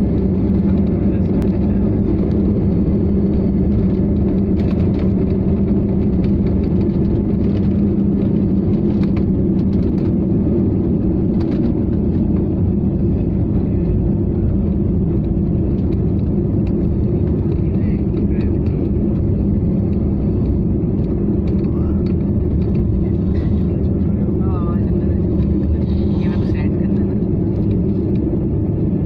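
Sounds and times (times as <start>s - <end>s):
jet engines roaring: 0.0s - 29.0s
low cabin hum: 0.0s - 29.0s
runway rumble: 0.0s - 29.0s.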